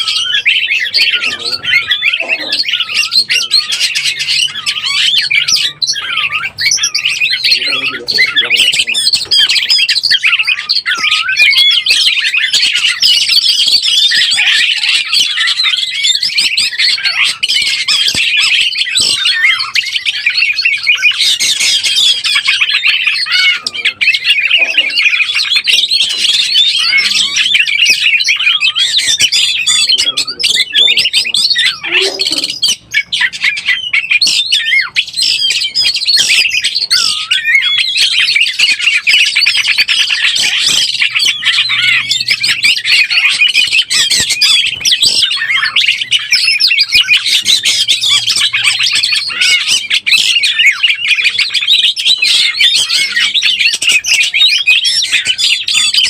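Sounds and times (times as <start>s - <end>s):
bird singing rapid whistles: 0.0s - 56.0s.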